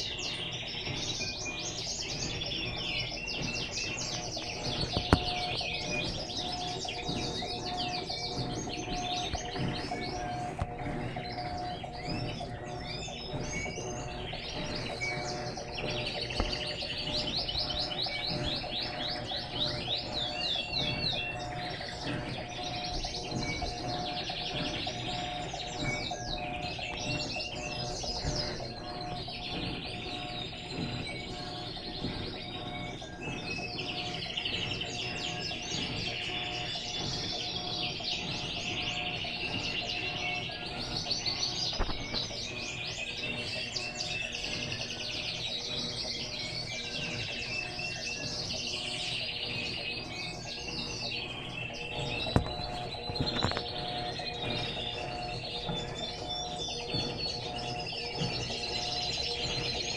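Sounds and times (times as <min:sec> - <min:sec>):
small birds chirping: 0:00.0 - 0:59.9
steady machine hum: 0:00.0 - 0:59.9.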